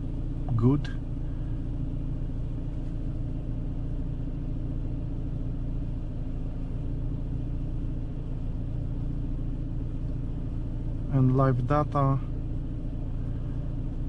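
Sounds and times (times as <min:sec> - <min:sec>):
car engine idling with misfire: 0:00.0 - 0:14.0.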